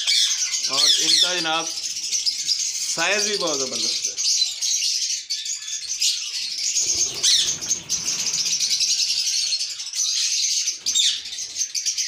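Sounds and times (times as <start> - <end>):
parakeets chattering: 0.0 - 12.0
parakeets screeching: 0.0 - 12.0.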